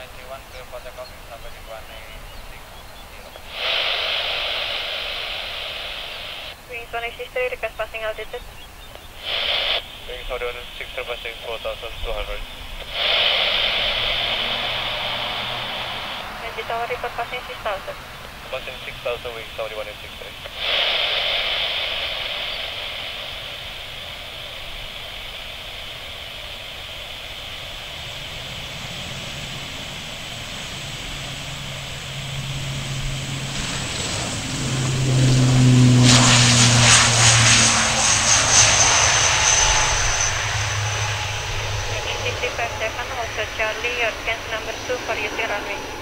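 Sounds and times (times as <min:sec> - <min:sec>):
turboprop plane taking off: 0:00.0 - 0:46.0.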